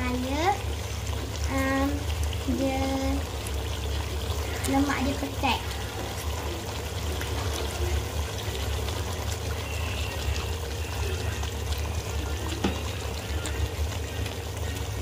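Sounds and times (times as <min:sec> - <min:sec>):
liquid pouring into pot: 0:00.0 - 0:15.0.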